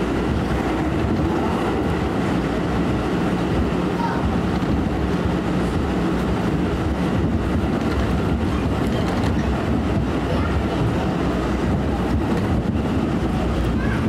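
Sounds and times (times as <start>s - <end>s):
subway car rumbling at speed: 0.0s - 14.0s.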